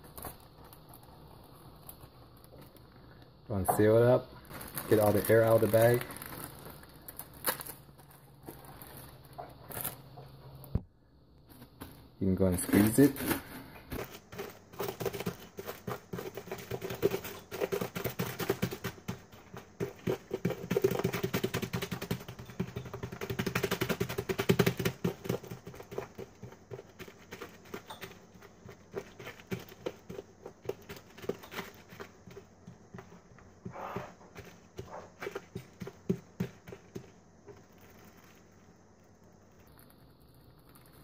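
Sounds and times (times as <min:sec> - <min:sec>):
plastic bag crinkling: 0:00.0 - 0:10.7, 0:11.5 - 0:41.0
seeds crackling and popping: 0:00.0 - 0:41.0.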